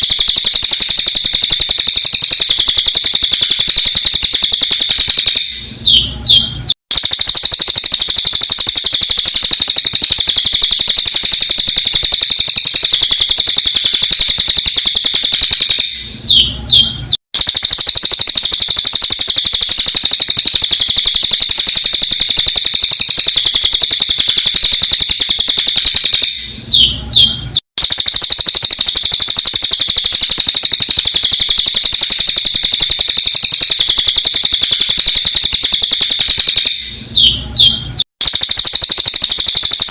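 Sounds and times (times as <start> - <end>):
bird chirps: 0.0 - 39.9
high-pitched bird trill: 0.0 - 39.9.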